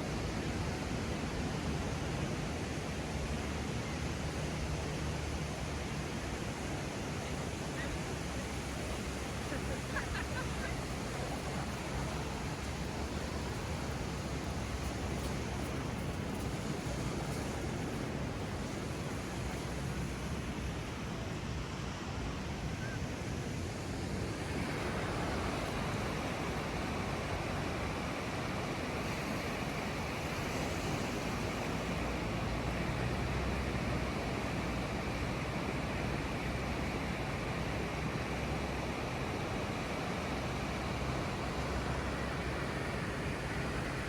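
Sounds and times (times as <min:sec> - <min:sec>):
ocean surf washing onto beach: 0:00.0 - 0:44.0.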